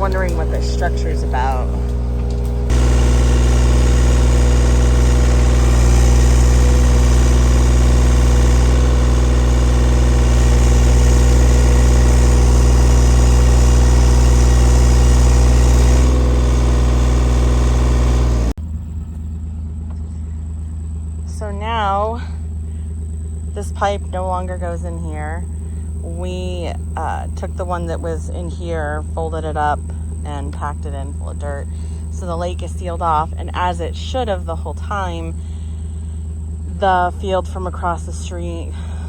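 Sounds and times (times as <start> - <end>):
engine rumbling: 0.0 - 39.0.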